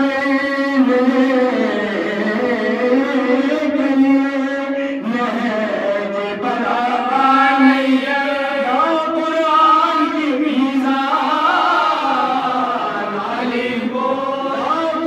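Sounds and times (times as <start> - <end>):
men chanting into a microphone: 0.0 - 15.0.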